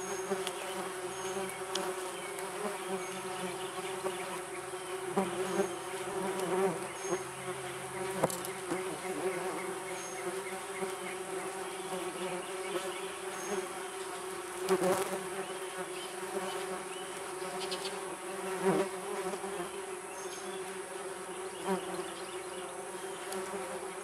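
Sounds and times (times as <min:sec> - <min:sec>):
wasps buzzing in flight: 0:00.0 - 0:24.0.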